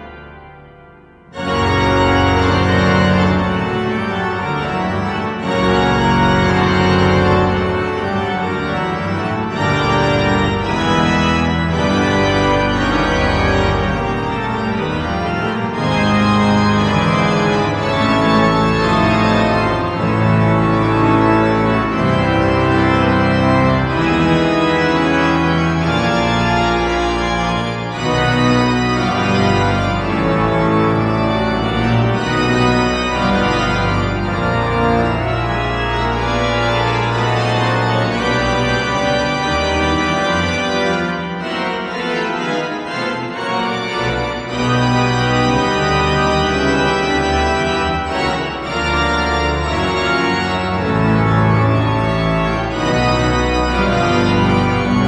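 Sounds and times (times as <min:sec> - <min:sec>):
deep organ pedal bass: 0:00.0 - 0:55.0
pipe organ chords: 0:00.0 - 0:55.0.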